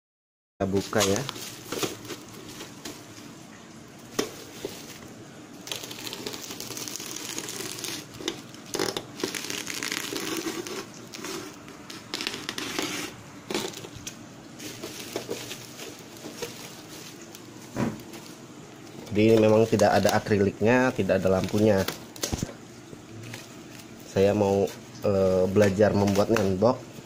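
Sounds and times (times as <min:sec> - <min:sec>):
plastic wrap crinkling as cut: 0:00.8 - 0:03.1, 0:04.1 - 0:20.4, 0:21.0 - 0:22.6, 0:23.2 - 0:26.6.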